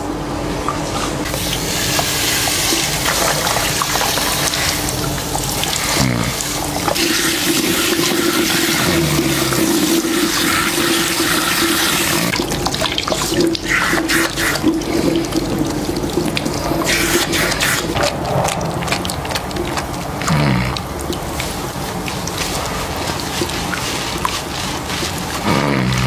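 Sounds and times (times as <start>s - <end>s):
water running at a wash basin: 0.0s - 26.0s.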